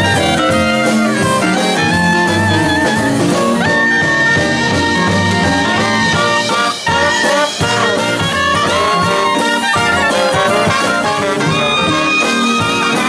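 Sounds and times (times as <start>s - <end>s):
live jazz band playing: 0.0s - 13.0s.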